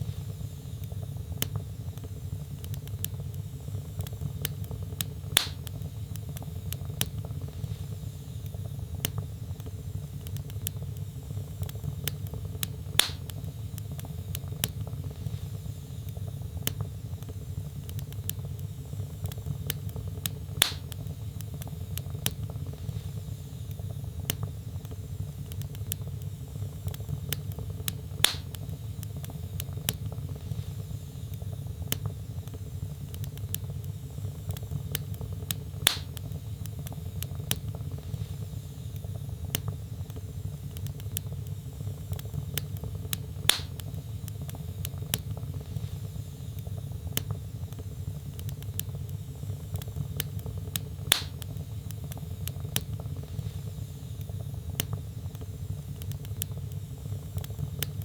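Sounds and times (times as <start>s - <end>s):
loud fire pops: 0.0s - 30.9s, 31.8s - 58.0s
wood fire crackling: 0.0s - 58.0s.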